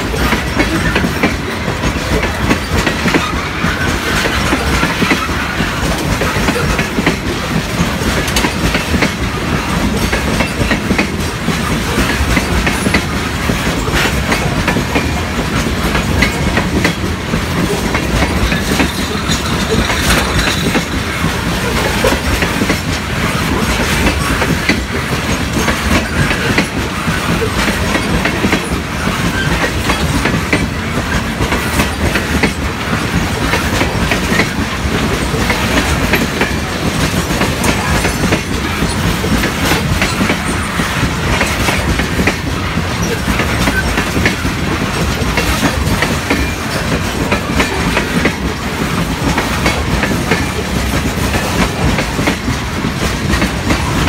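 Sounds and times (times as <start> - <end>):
train wheels clacking over rail joints: 0.0 - 54.0.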